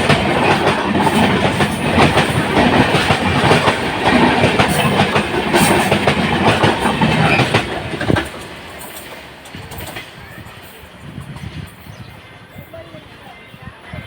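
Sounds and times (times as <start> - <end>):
train wheels clattering over rail joints: 0.0 - 11.6.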